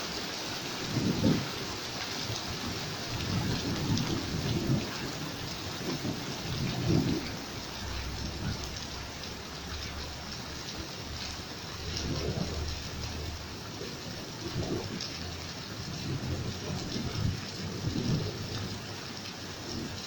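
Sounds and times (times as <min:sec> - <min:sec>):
heavy rain falling: 0:00.0 - 0:20.0
thunder rumbling: 0:00.6 - 0:20.0.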